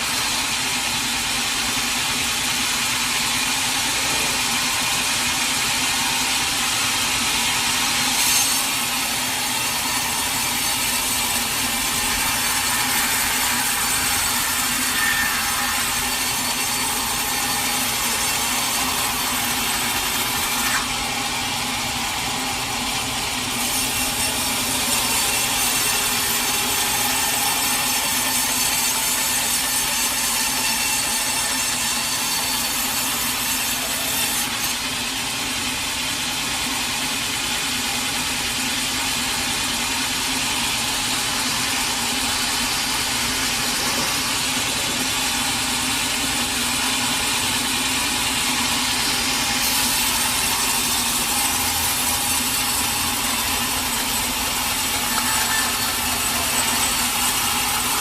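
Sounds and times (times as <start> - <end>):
saw blade cutting log: 0.0 - 36.8, 37.6 - 58.0.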